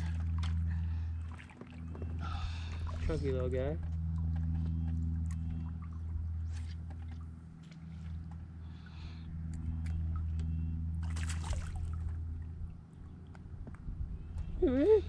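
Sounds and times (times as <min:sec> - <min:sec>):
water lapping at hull: 0:00.0 - 0:15.0.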